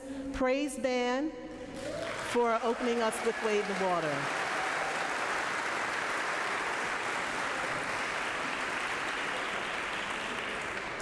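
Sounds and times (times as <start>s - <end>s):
crowd applauding: 1.7s - 11.0s.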